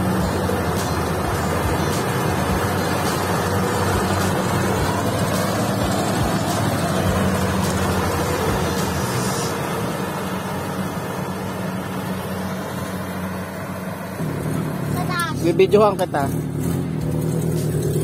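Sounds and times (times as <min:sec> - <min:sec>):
harvester diesel engine humming: 0:00.0 - 0:18.0.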